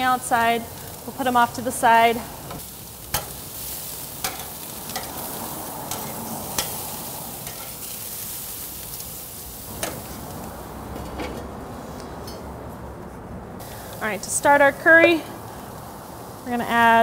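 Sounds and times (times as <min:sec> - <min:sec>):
chicken sizzling on a grill: 0:00.0 - 0:12.2, 0:13.6 - 0:17.0.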